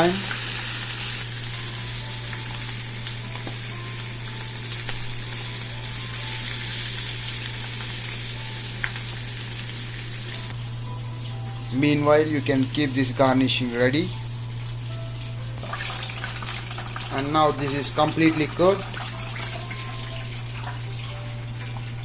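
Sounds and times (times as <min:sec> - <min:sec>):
meat sizzling in hot oil: 0:00.0 - 0:22.0.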